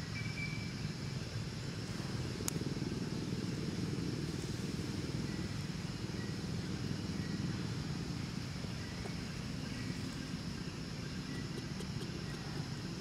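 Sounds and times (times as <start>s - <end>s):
steady low rumble: 1.3s - 13.0s.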